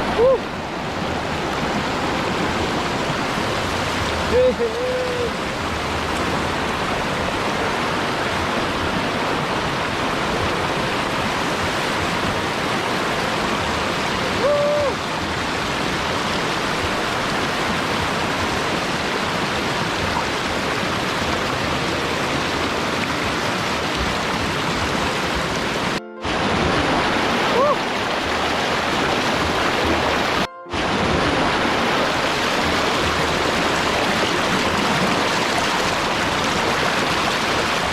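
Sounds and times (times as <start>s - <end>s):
river water rushing over rocks: 0.0s - 37.9s.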